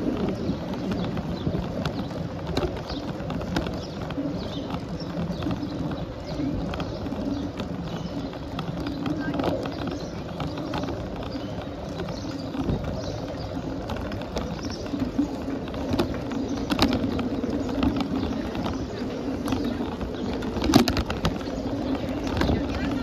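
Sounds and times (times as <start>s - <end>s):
bicycle road and wind noise: 0.0s - 23.0s.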